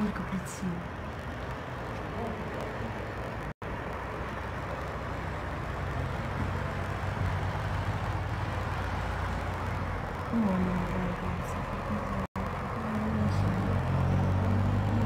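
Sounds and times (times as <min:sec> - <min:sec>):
car driving past: 0:00.5 - 0:15.0.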